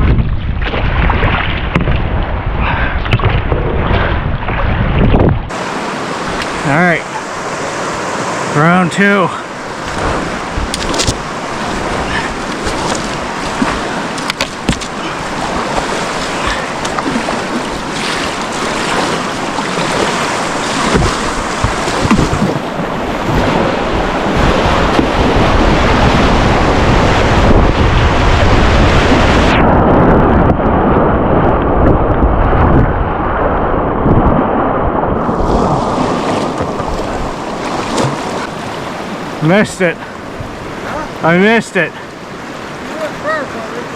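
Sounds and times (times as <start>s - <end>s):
wind buffeting microphone: 0.0s - 8.4s, 9.5s - 39.4s, 40.0s - 41.2s
ocean surf breaking: 5.5s - 43.9s.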